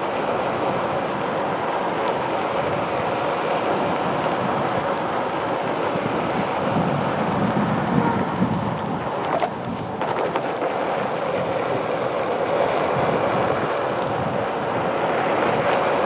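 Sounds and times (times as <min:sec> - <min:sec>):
tyre rumbling over pavement: 0:00.0 - 0:16.0
wind buffeting microphone: 0:00.0 - 0:16.0.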